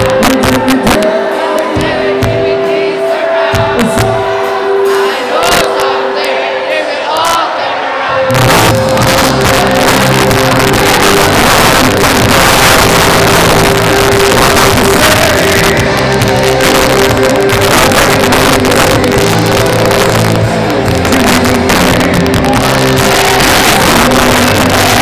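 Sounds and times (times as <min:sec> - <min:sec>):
live band playing loud music: 0:00.0 - 0:25.0
person singing into a microphone: 0:00.0 - 0:25.0.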